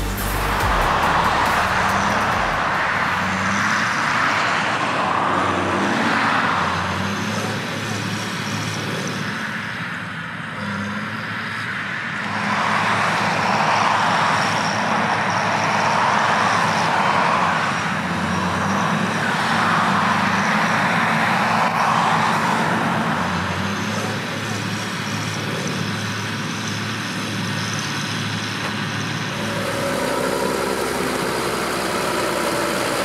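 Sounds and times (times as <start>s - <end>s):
machinery churning noise: 0.0s - 10.9s, 12.0s - 33.0s
harvester diesel drone: 0.0s - 33.0s.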